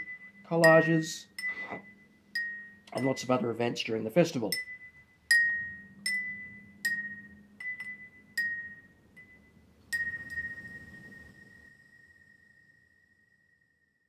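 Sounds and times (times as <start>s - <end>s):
wine glasses ringing: 0.0s - 3.6s, 4.4s - 13.6s.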